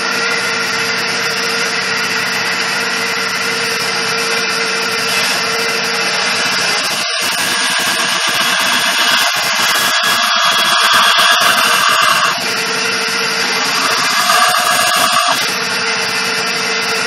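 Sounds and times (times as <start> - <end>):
bandsaw cutting metal: 0.0 - 17.0.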